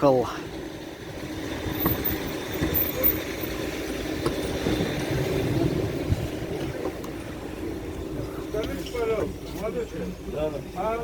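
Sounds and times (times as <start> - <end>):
minibus engine and road noise: 0.0 - 11.0.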